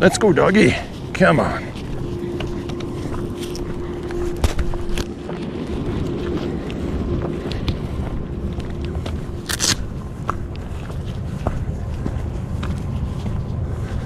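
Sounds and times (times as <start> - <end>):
footsteps on gravel: 0.2 - 14.0
low rumble: 0.7 - 14.0.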